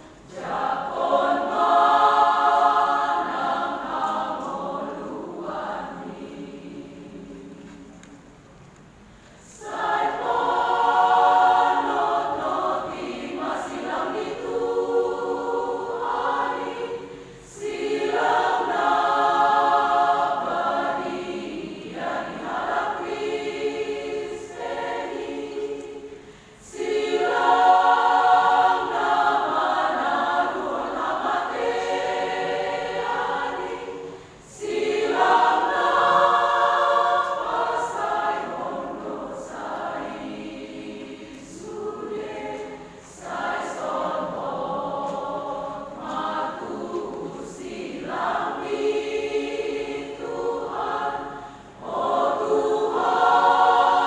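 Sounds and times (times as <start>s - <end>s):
church choir singing: 0.0s - 8.4s, 9.4s - 54.0s.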